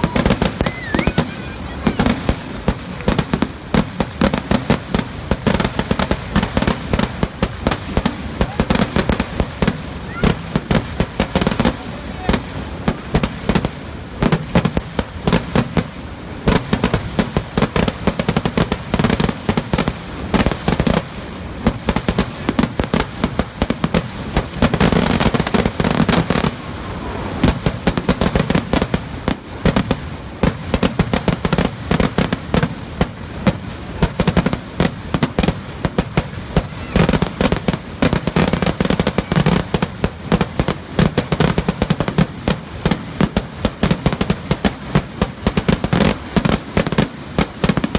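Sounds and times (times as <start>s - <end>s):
rapid firecracker bangs: 0.0s - 47.9s.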